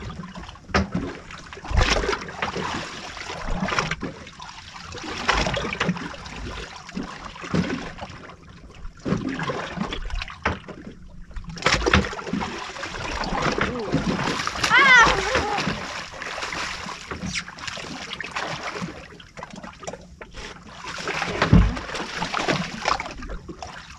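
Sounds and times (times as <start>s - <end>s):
water splashing and trickling: 0.0s - 23.9s.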